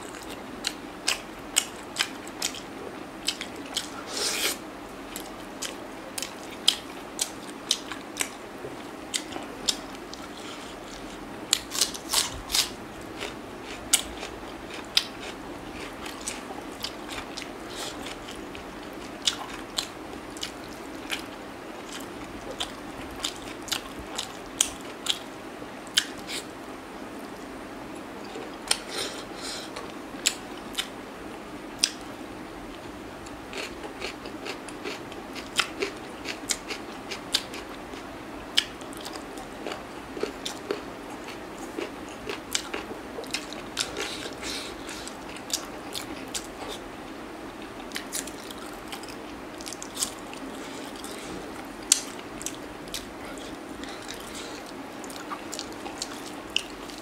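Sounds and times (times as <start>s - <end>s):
man chewing with mouth clicks: 0.0s - 25.3s, 25.9s - 26.5s, 28.2s - 31.0s, 31.8s - 32.1s, 32.7s - 47.0s, 47.6s - 57.0s.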